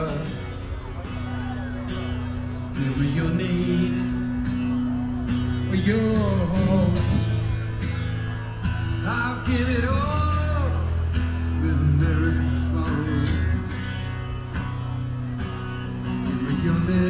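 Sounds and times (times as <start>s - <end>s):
bass line: 0.0s - 17.0s
guitar: 0.0s - 17.0s.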